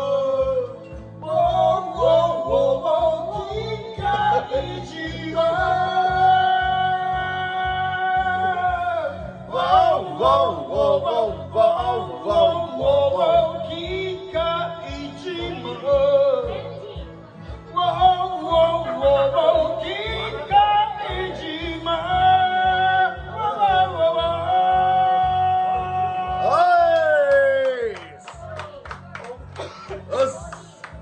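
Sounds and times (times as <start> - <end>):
man singing into a microphone: 0.0 - 27.2
backing track with bass beat: 0.0 - 31.0.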